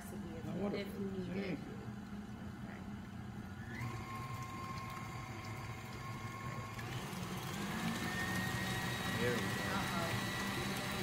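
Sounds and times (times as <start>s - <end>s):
electric mixer whining: 0.0s - 11.0s.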